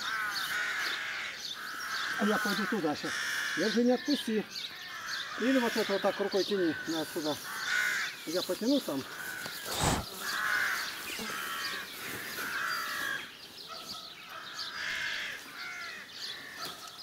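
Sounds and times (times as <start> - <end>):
bird harsh calls: 0.0 - 17.0.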